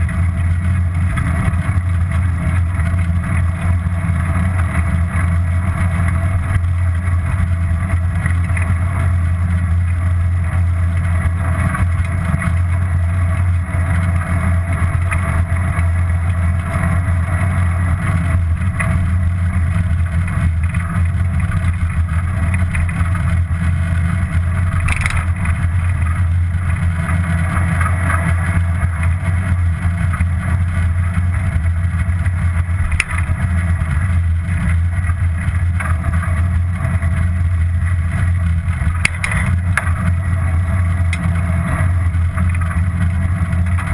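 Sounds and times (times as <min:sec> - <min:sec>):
wind and bicycle tyre rumble: 0:00.0 - 0:43.9.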